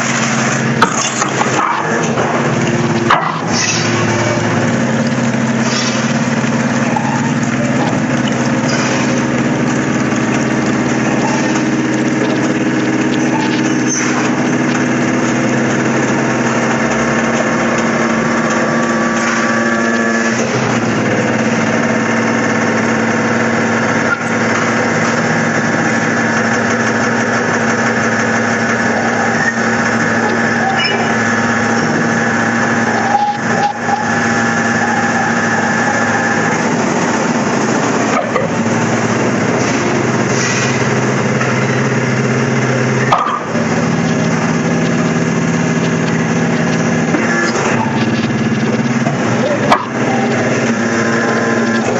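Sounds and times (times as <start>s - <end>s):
hydraulic power unit humming: 0.0s - 51.9s.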